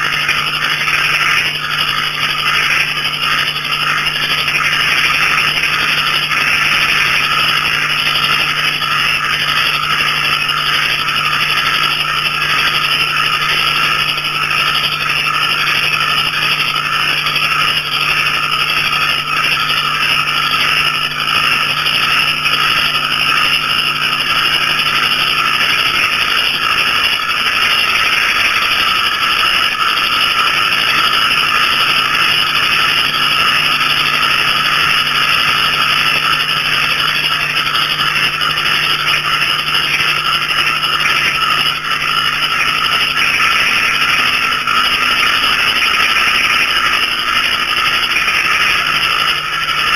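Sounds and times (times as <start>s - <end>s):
frogs and crickets calling: 0.0s - 49.9s.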